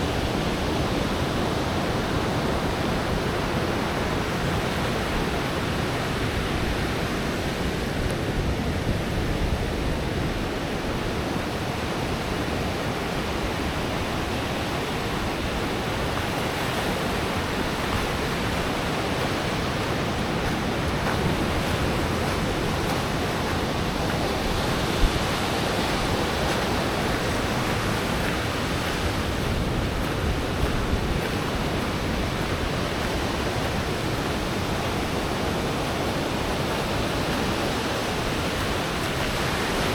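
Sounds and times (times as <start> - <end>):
surf breaking on sandy beach: 0.0 - 39.9.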